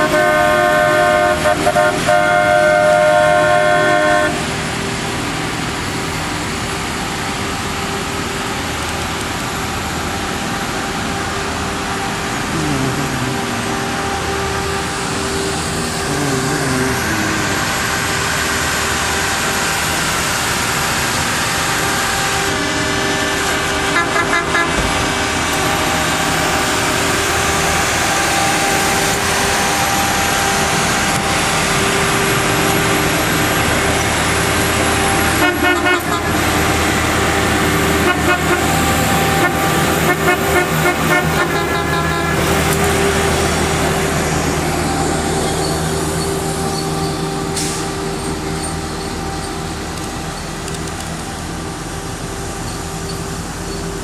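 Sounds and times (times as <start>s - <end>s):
rail machine engine running: 0.0s - 54.0s.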